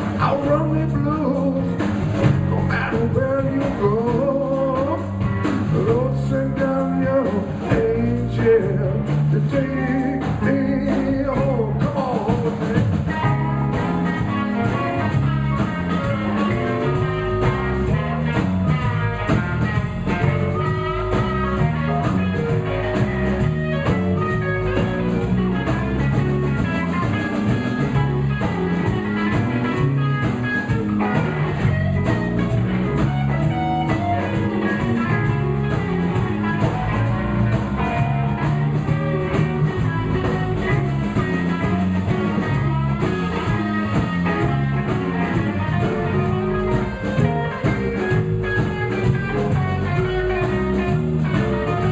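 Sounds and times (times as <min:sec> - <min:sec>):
bass guitar: 0:00.0 - 0:51.9
drum kit steady beat: 0:00.0 - 0:51.9
lead electric guitar: 0:00.0 - 0:51.9.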